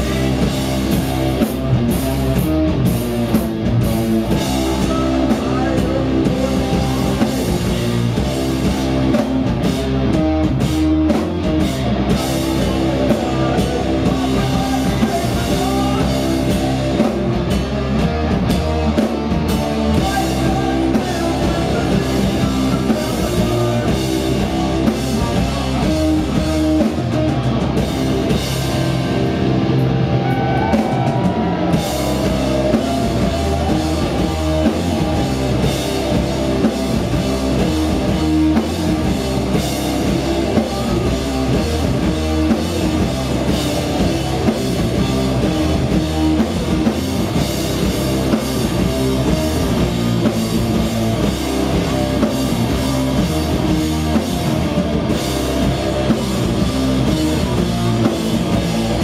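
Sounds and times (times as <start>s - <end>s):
bass guitar: 0.0s - 59.0s
drum kit with cymbals: 0.0s - 59.0s
electric guitars: 0.0s - 59.0s.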